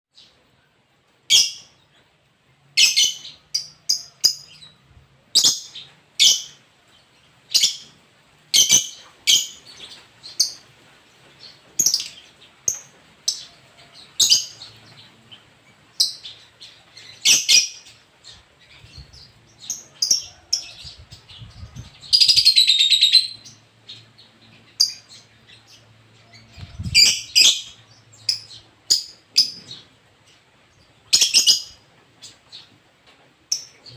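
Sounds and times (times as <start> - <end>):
lovebird chirping: 1.3 - 2.0, 2.7 - 6.6, 7.5 - 10.6, 11.2 - 32.8.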